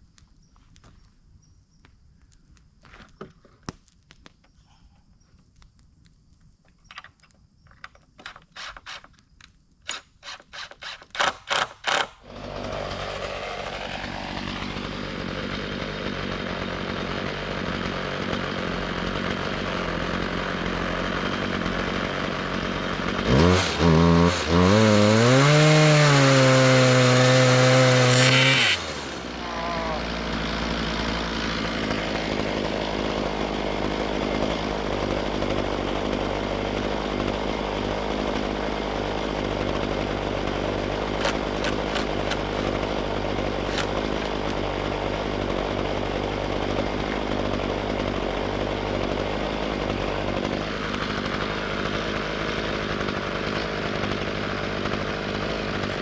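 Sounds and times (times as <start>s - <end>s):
chainsaw cutting wood: 6.9s - 56.0s.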